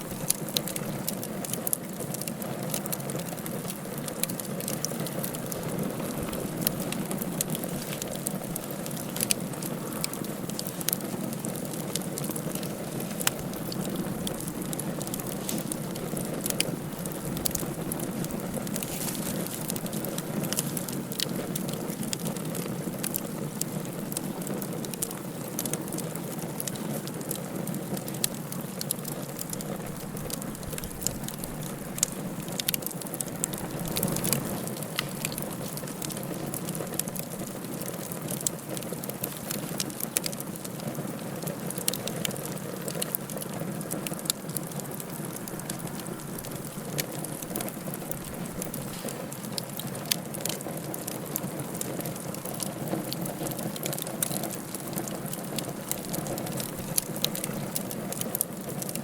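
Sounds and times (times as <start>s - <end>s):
wood fire burning: 0.0s - 59.0s.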